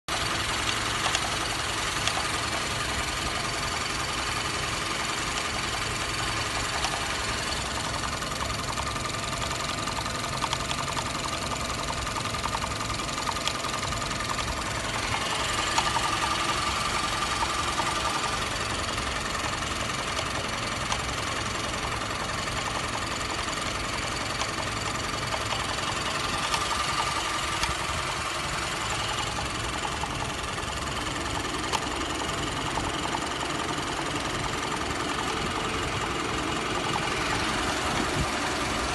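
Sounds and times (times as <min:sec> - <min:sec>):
car engine idling: 0:00.0 - 0:38.9
fast light ticking: 0:00.1 - 0:38.9.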